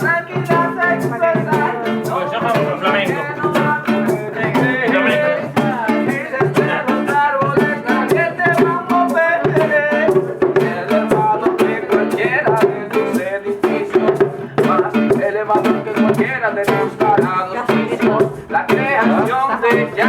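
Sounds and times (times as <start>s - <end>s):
reggae music: 0.0s - 20.0s.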